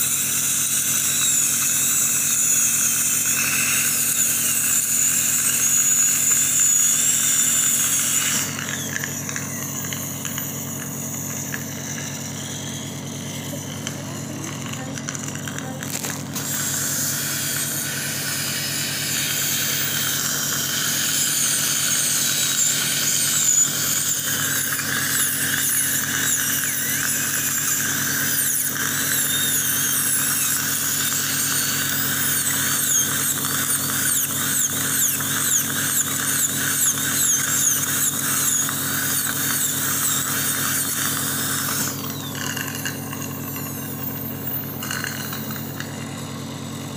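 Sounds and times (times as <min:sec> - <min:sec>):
dental drill whining: 0:00.0 - 0:46.9.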